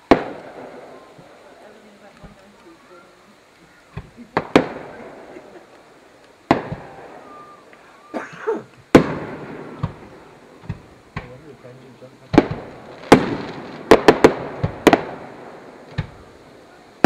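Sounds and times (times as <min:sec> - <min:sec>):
firework shells bursting: 0:00.0 - 0:02.8, 0:03.8 - 0:11.6, 0:12.2 - 0:16.6.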